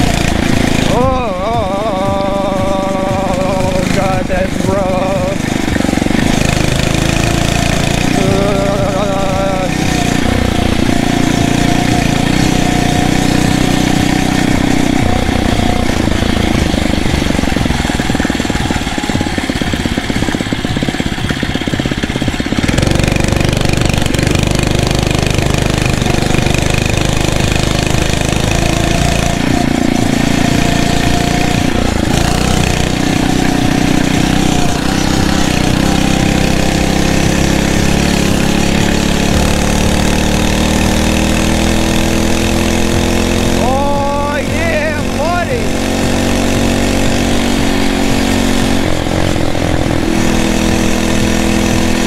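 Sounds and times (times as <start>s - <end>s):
small motorized bicycle engine: 0.0s - 52.0s.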